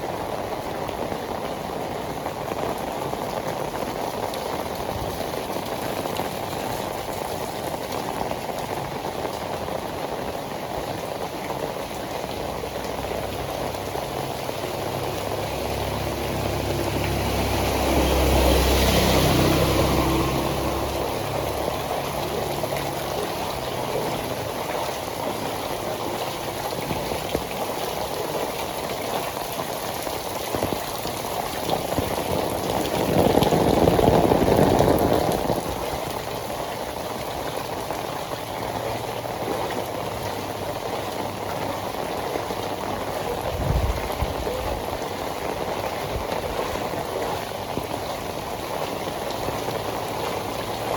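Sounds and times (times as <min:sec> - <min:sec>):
heavy rain on pavement: 0:00.0 - 0:50.9
vehicle passing on wet road: 0:00.0 - 0:50.9.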